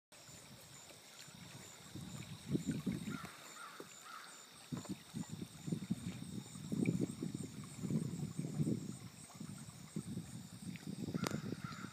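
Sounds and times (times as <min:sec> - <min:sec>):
wind buffeting microphone: 0:00.3 - 0:03.4, 0:04.5 - 0:11.9.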